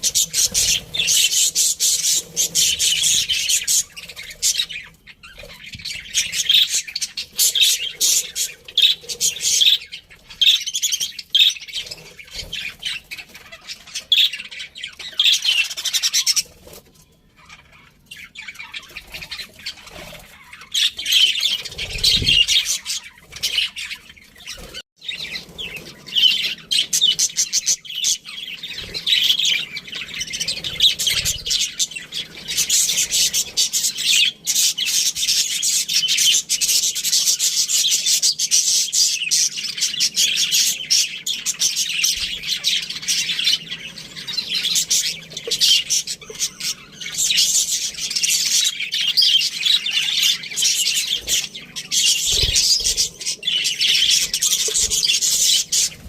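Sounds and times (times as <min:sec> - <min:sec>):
flock of budgerigars chirping: 0:00.0 - 0:56.0.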